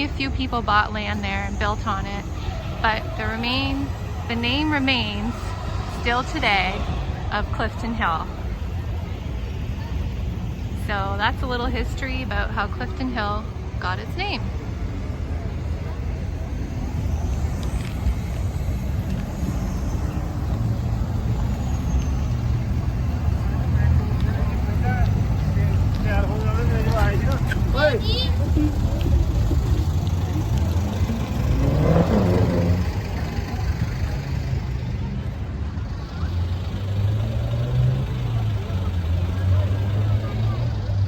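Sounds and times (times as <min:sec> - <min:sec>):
road traffic passing: 0:00.0 - 0:41.0
vehicle engine humming: 0:00.0 - 0:41.0.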